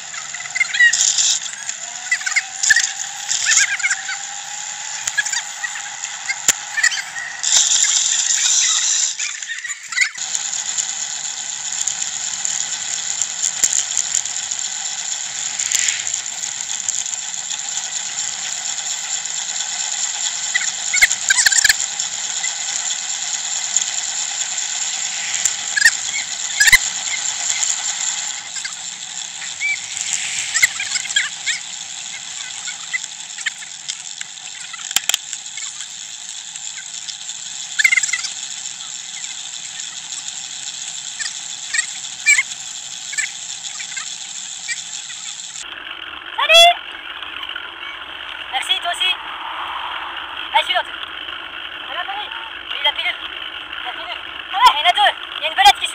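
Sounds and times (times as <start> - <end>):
bicycle clicks and rattles: 0.0 - 48.6, 50.9 - 55.9
bicycle drivetrain ticking whir: 0.0 - 55.9.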